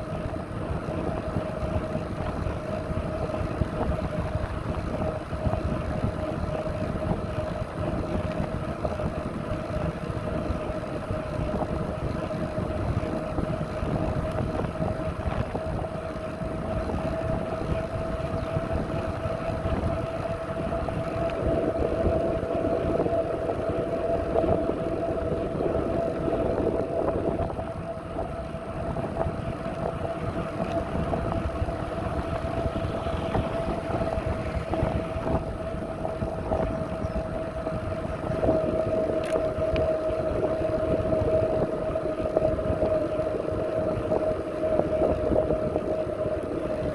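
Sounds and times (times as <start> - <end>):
bicycle rough rumble: 0.0 - 46.9
steady high whine: 0.0 - 46.9
wind buffeting microphone: 0.0 - 46.9.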